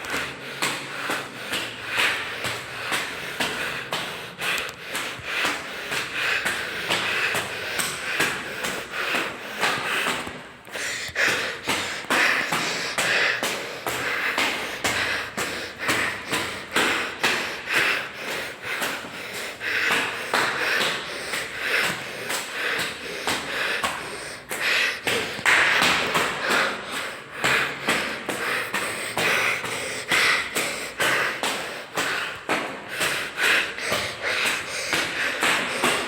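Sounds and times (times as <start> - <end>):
footsteps climbing stairs: 0.0 - 36.0
heavy hard breathing: 0.0 - 36.0.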